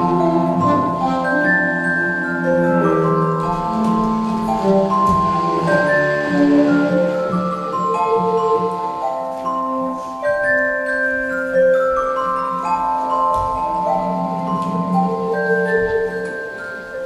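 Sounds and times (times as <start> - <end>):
saxophone and cello music: 0.0 - 17.0.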